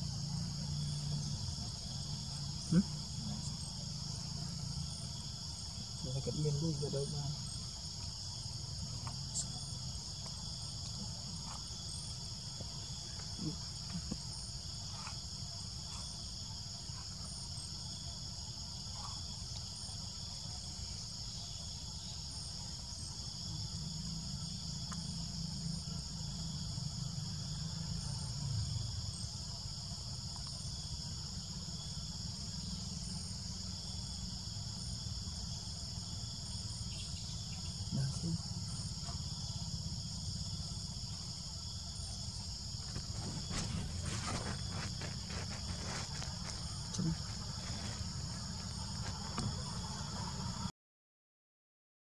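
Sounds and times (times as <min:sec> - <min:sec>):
insect chorus drone: 0:00.0 - 0:50.7.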